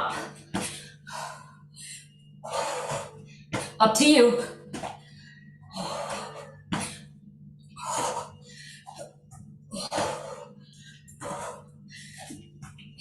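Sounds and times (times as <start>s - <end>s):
person breathing hard: 0.0s - 3.7s, 5.0s - 12.5s
steady low hum: 0.0s - 13.0s.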